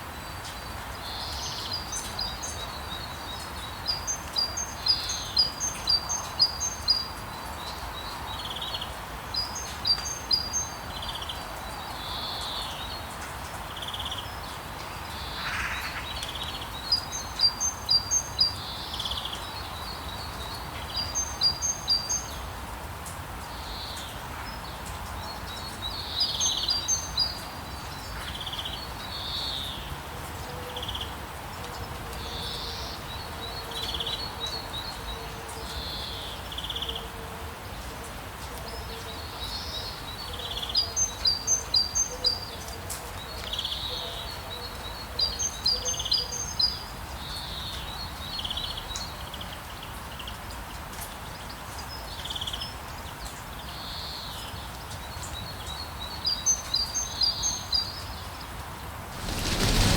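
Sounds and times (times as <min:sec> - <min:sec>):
light rain hiss: 0:00.0 - 0:43.9, 0:46.4 - 0:59.9.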